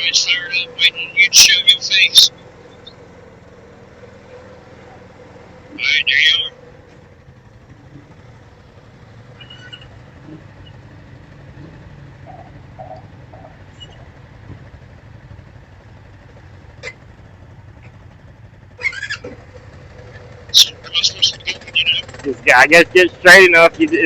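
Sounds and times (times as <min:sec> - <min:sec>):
atv engine idling: 0:00.0 - 0:24.0.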